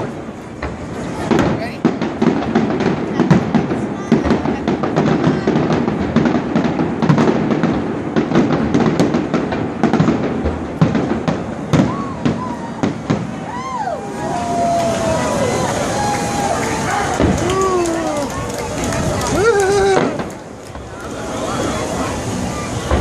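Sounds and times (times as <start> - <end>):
fireworks cracking and banging: 0.0 - 23.0.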